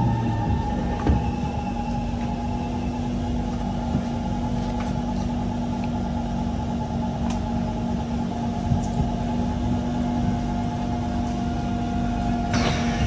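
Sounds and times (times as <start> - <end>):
train interior hum and rumble: 0.0 - 13.0.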